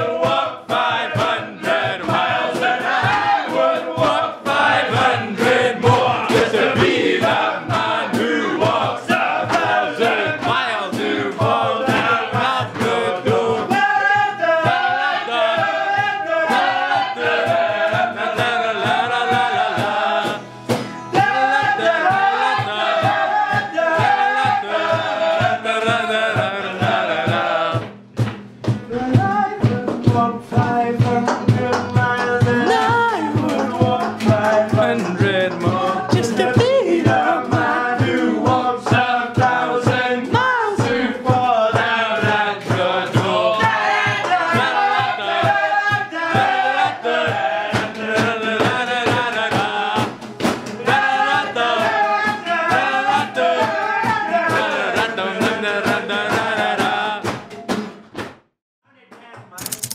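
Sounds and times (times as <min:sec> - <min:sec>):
group singing: 0:00.0 - 0:57.8
acoustic guitars strumming: 0:00.0 - 0:58.3.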